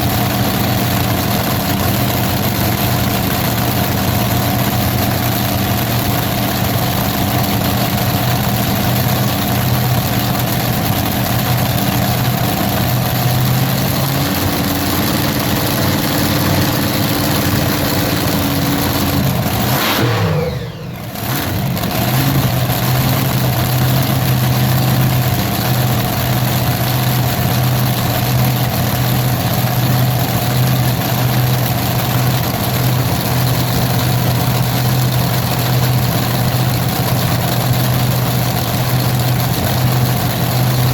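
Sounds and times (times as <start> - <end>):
large engine idling: 0.0 - 40.9.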